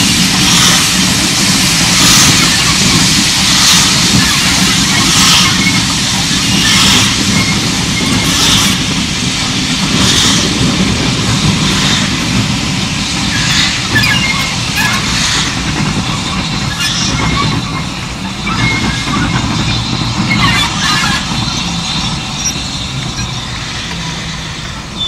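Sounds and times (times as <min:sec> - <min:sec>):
steam locomotive exhaust beats: 0:00.0 - 0:25.0
train rumbling on rails: 0:00.0 - 0:25.0.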